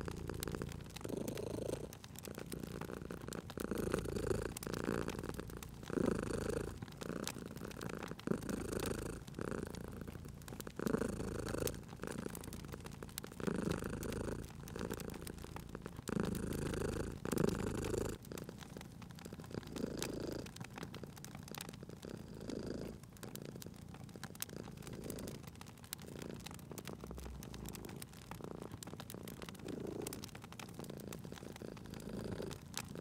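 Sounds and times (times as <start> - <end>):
cat purring: 0.0 - 33.0
crackling fire: 0.0 - 33.0.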